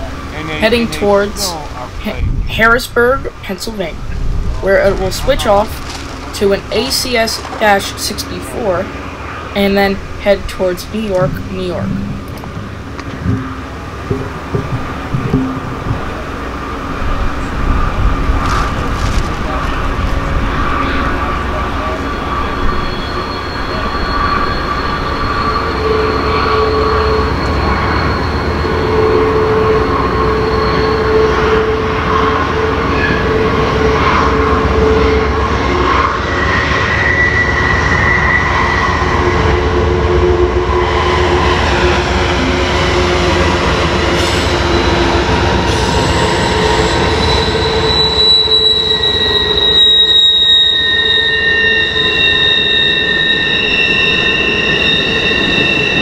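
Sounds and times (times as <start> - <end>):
low locomotive rumble: 0.0 - 56.0
wheel flanges squealing on rail: 3.8 - 56.0.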